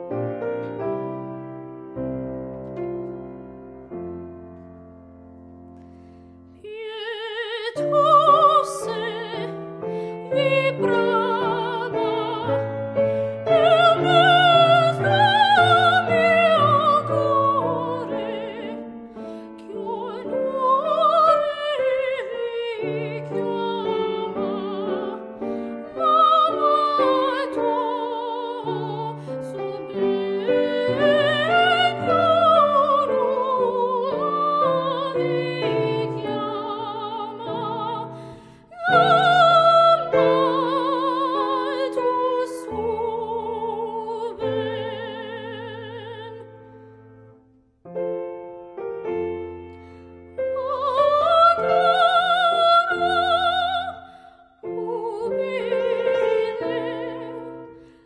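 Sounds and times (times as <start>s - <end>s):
grand piano: 0.0s - 58.0s
woman singing operatically: 6.6s - 18.9s, 19.5s - 46.6s, 50.4s - 57.7s.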